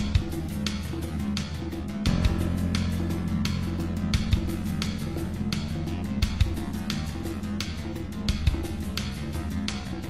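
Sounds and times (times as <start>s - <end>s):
guitar over drum beat and bass: 0.0s - 10.0s.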